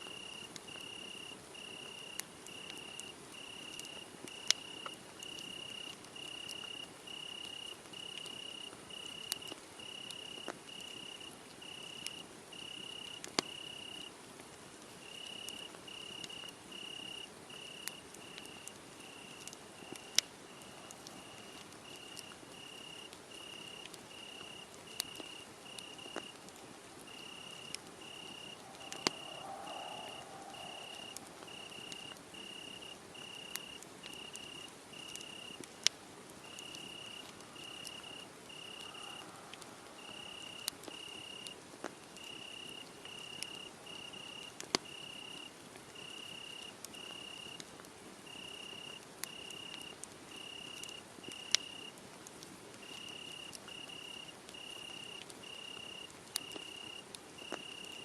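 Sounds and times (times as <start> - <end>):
crickets chirping: 0.0 - 14.1, 15.0 - 35.6, 36.4 - 41.6, 42.2 - 47.6, 48.3 - 51.9, 52.8 - 58.0
wood fire crackling and popping: 0.0 - 58.0.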